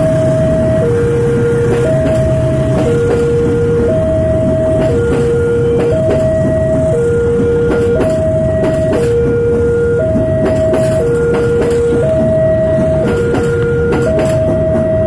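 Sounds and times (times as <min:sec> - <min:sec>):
train wheels clicking over rail joints: 0:00.0 - 0:15.0
two-tone level-crossing alarm: 0:00.0 - 0:15.0.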